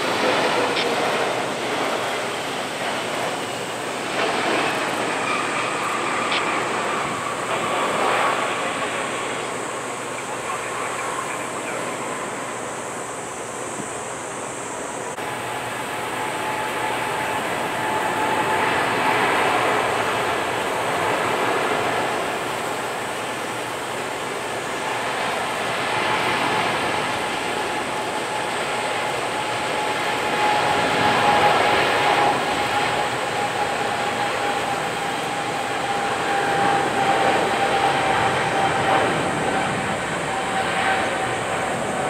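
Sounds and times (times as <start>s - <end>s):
jet engine roar with whine: 0.0s - 42.0s.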